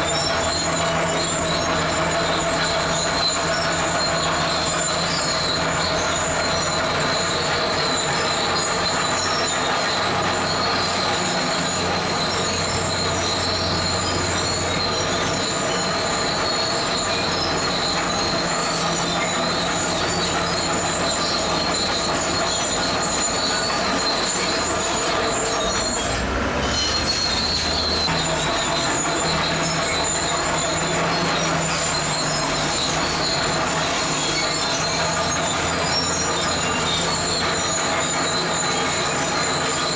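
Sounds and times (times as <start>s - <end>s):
bulldozer diesel engine running: 0.0s - 39.9s
steel tracks squealing: 0.0s - 39.9s.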